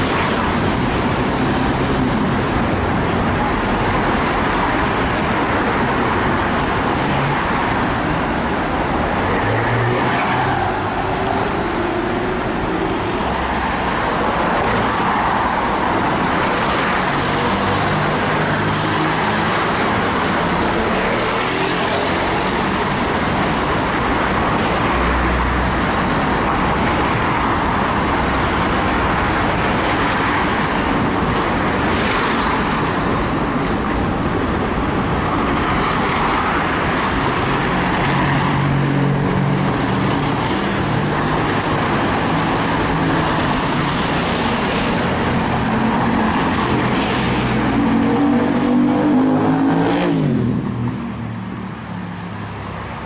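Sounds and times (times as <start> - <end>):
road traffic passing: 0.0 - 53.0.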